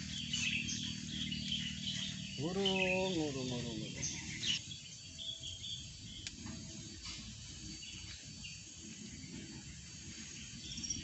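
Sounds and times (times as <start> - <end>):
bird chirps: 0.0 - 11.0
high insect hum: 0.0 - 11.0.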